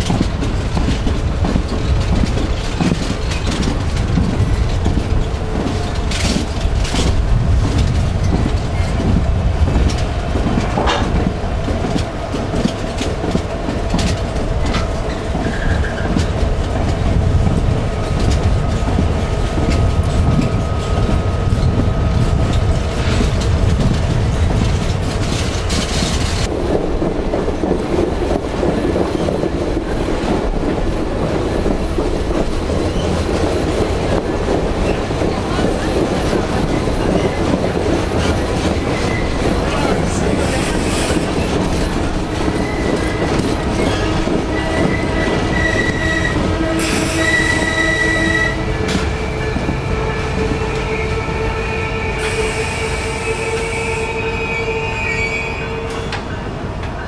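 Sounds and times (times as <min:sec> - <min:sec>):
clacks over rail joints: 0:00.0 - 0:50.9
train wheels rumbling on rail: 0:00.0 - 0:57.0.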